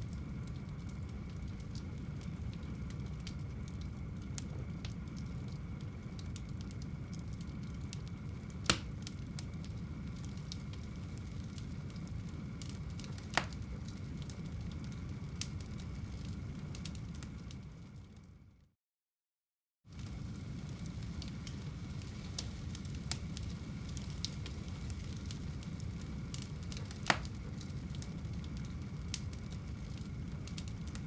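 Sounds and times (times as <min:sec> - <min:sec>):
fire rumbling: 0:00.0 - 0:18.5, 0:19.9 - 0:31.0
fire crackles: 0:00.0 - 0:18.7, 0:19.9 - 0:31.0.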